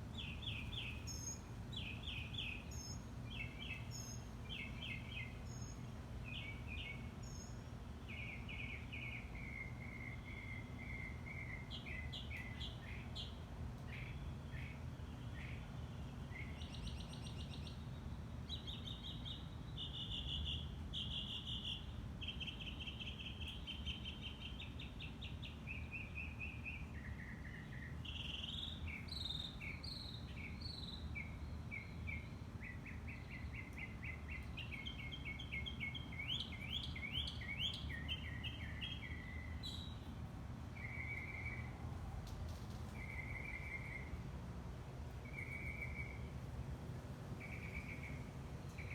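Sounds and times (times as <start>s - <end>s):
songbird chirping and trilling: 0.0s - 42.0s, 42.7s - 44.3s, 45.1s - 46.5s, 47.2s - 48.9s
low background hum: 0.0s - 48.9s.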